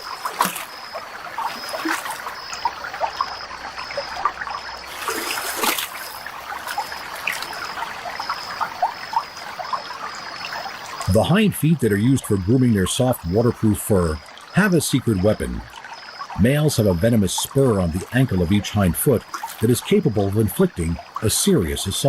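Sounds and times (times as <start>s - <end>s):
stream water trickling: 0.0s - 22.0s.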